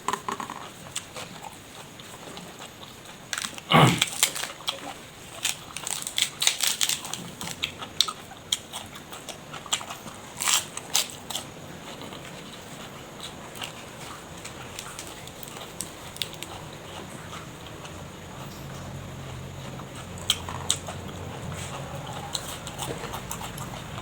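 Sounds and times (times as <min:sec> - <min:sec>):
crunching and chewing: 0:00.0 - 0:24.0.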